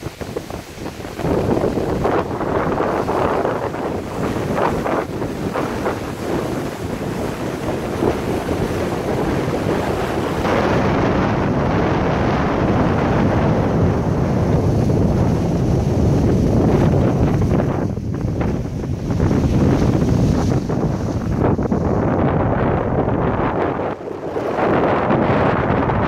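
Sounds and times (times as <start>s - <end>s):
surf breaking on rocks: 0.0s - 26.0s
wind buffeting microphone: 0.0s - 26.0s.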